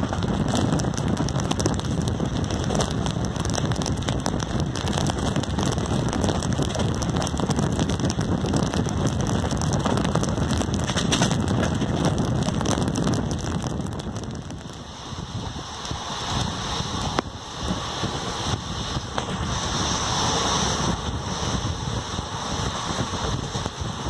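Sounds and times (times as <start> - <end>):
train running noise: 0.0 - 7.5, 8.7 - 12.6, 14.4 - 24.0
wind rushing over microphone: 0.0 - 24.0.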